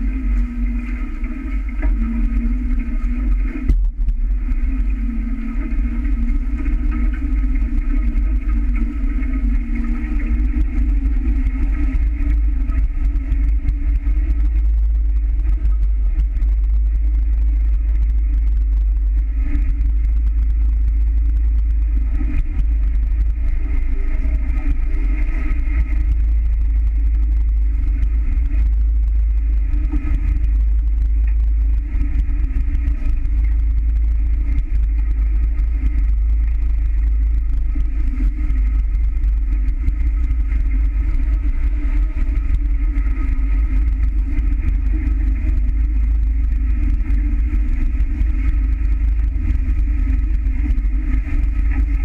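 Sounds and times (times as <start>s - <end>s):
water rushing along hull: 0.0s - 52.0s
wind rumbling on microphone: 0.0s - 52.0s.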